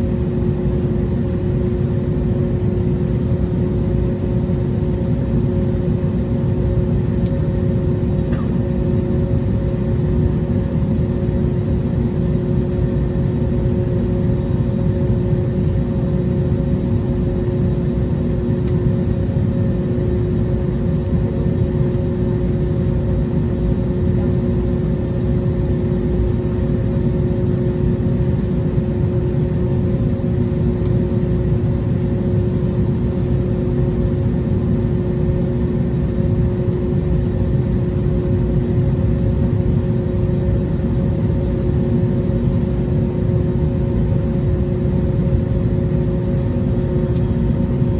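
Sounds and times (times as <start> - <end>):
jet engines running: 0.0 - 47.9.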